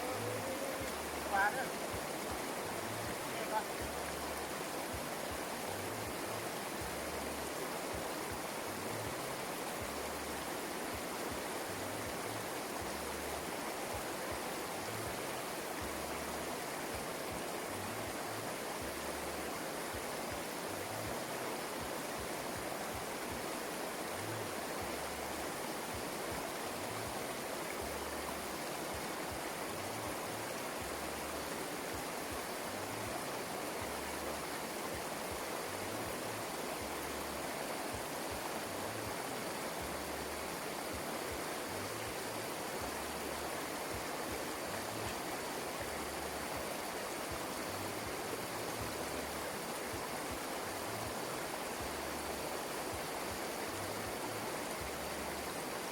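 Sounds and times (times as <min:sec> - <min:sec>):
water rushing: 0:00.0 - 0:55.9.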